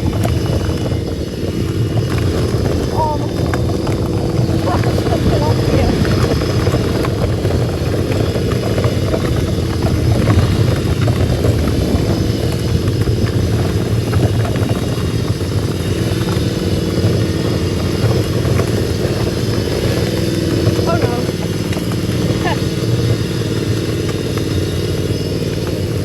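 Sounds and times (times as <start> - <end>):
riding lawnmower engine running: 0.0 - 26.0
toy tractor rattling over rocks: 0.0 - 26.0.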